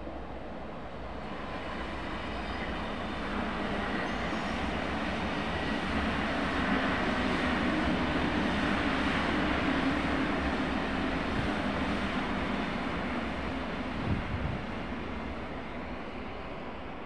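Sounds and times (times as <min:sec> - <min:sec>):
passenger train running past: 0:00.0 - 0:17.0.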